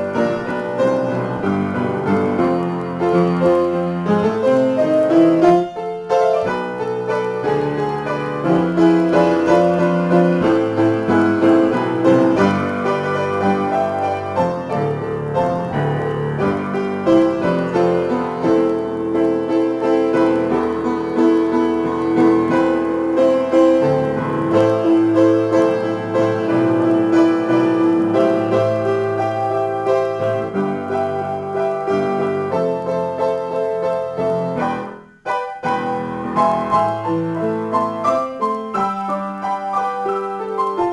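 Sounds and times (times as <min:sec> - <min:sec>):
upright piano improvisation: 0:00.0 - 0:40.9.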